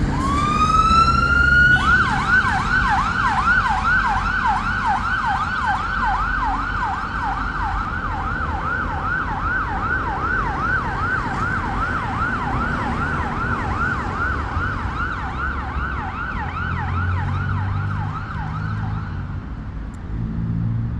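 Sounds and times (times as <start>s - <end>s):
emergency siren fast yelp: 0.0s - 19.3s
vehicle engine rumbling: 0.0s - 20.9s.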